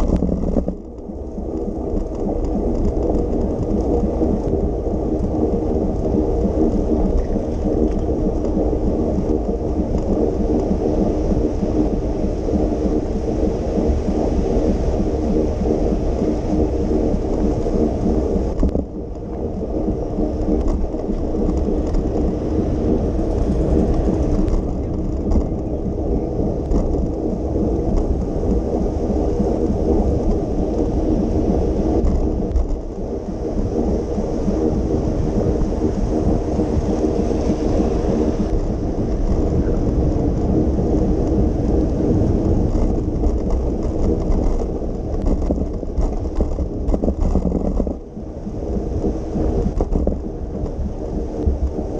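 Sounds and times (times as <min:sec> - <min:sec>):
hum of steady tones: 0:00.0 - 0:51.9
wet tyres and rain hiss: 0:00.0 - 0:51.9
wind rumble on microphone: 0:00.0 - 0:51.9.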